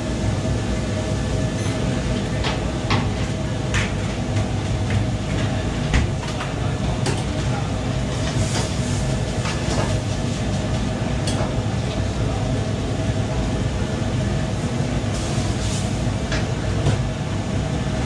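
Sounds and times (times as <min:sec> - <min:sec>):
gas burner and extractor rushing: 0:00.0 - 0:18.0.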